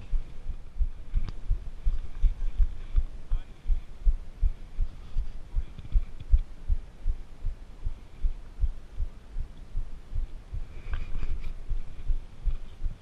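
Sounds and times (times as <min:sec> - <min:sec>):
fast heartbeat thumping: 0:00.0 - 0:10.8, 0:11.6 - 0:13.0
faint hum: 0:00.0 - 0:13.0.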